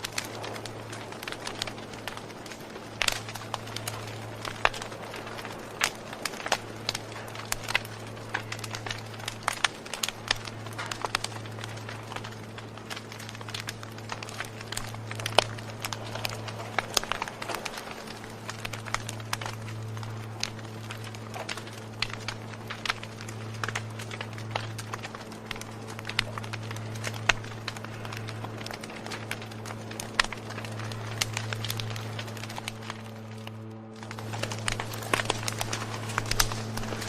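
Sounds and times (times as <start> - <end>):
steady low hum: 0.0 - 37.0
wood fire crackling: 0.0 - 37.0.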